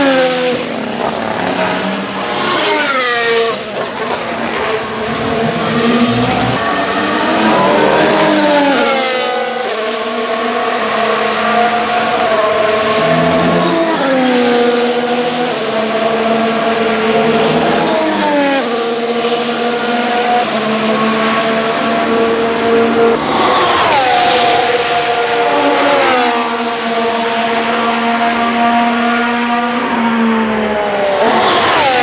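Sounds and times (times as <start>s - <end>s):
race cars passing by: 0.0s - 32.0s.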